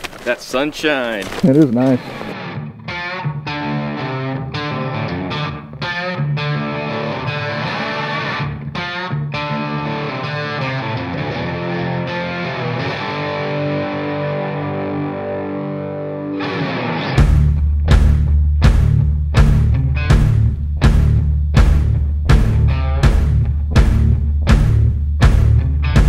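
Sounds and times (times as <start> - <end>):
distorted electric guitar music: 1.8 - 26.0.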